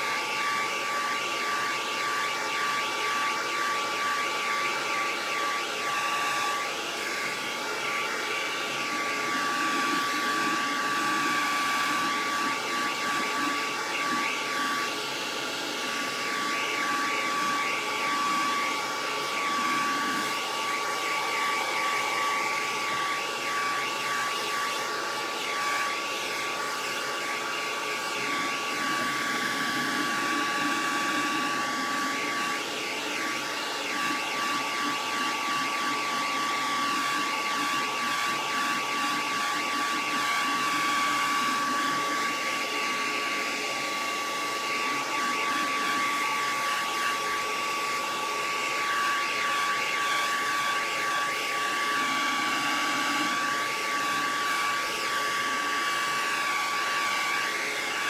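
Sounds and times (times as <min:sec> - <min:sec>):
hair dryer whining: 0:00.0 - 0:58.0.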